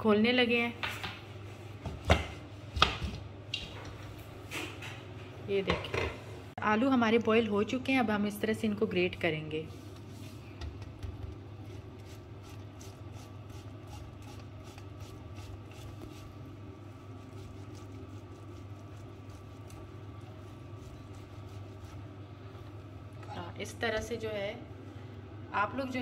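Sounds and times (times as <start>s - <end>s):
steady low hum: 1.2s - 26.0s.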